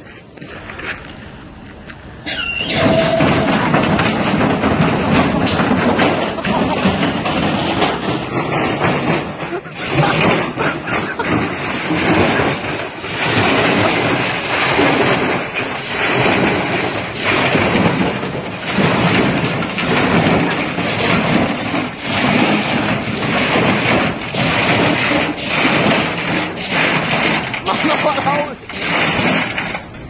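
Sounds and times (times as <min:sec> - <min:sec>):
washing machine rumbling and rattling: 0:00.0 - 0:30.0.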